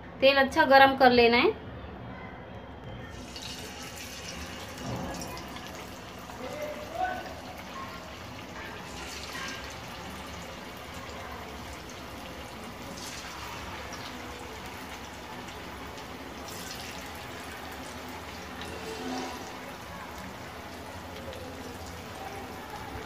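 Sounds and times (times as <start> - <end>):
chicken deep-frying in hot oil: 3.1 - 23.0.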